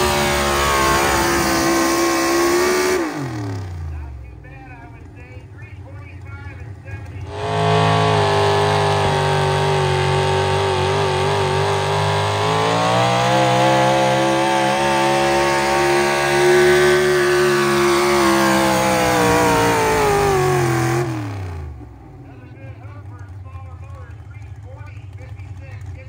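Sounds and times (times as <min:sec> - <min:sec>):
engine at high revs: 0:00.0 - 0:04.2, 0:06.0 - 0:26.0.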